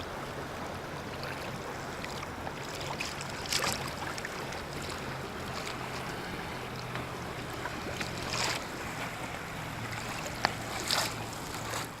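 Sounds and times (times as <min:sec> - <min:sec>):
paddle splashes: 0:00.0 - 0:12.0
water washing: 0:00.0 - 0:12.0
wind: 0:00.0 - 0:12.0.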